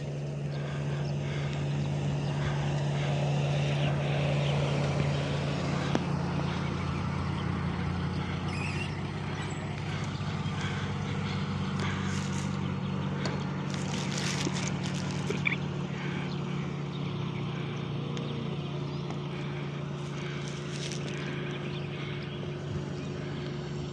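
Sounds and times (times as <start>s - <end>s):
vehicle engine idling: 0.0s - 23.9s.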